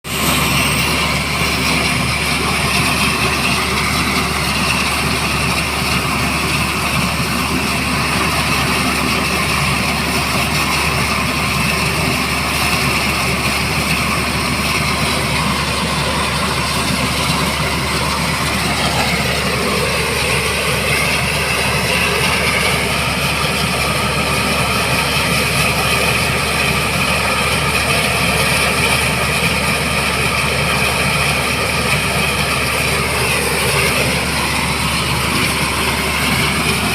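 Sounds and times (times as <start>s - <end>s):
helicopter engine and rotor: 0.0s - 36.9s.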